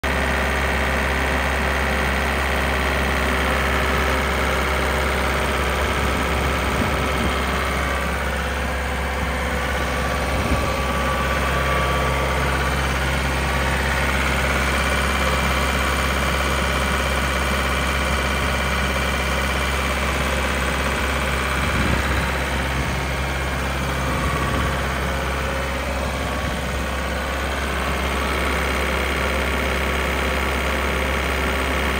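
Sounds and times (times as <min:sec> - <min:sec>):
diesel engine humming: 0:00.0 - 0:31.9.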